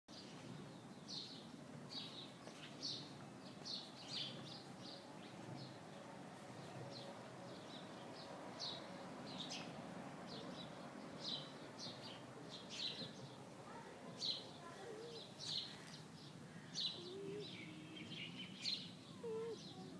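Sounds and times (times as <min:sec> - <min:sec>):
birds chirping: 0:00.1 - 0:19.9.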